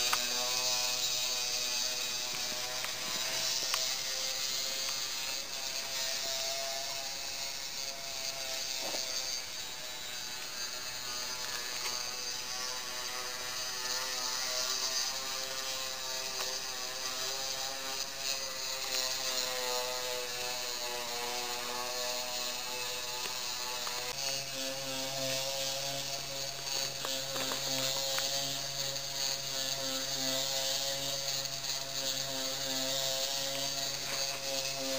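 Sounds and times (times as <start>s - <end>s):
small electric motor whining: 0.0s - 34.9s.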